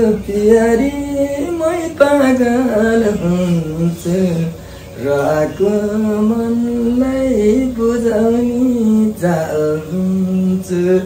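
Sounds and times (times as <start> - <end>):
man singing slowly: 0.0 - 11.0.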